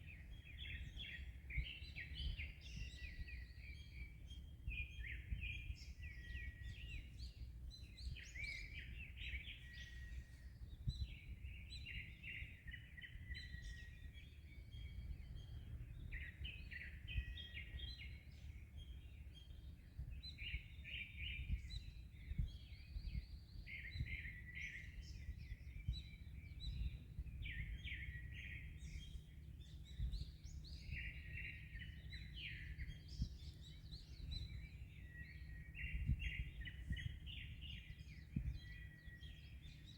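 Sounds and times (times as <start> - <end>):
low rumble of wind: 0.0 - 39.9
small birds chirping and trilling: 0.0 - 39.9.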